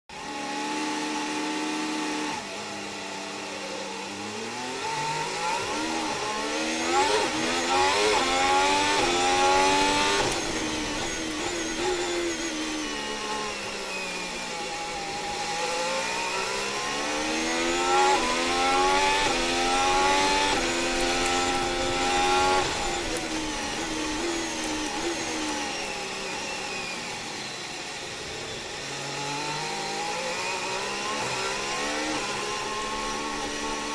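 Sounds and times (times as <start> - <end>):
racing car engine revving: 0.1 - 27.2, 28.8 - 33.9.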